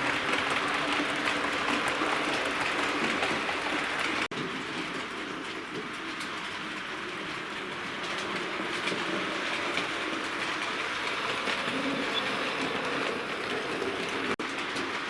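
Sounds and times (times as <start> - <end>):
faint clicks of wheels: 0.0 - 15.0.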